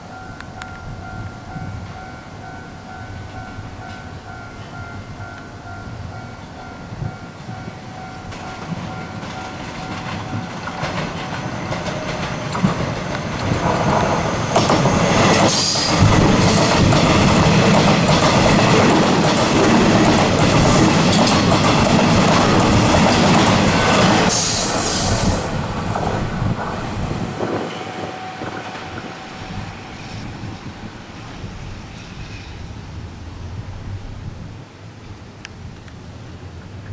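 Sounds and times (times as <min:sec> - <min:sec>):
electric train running past: 0:00.0 - 0:35.0.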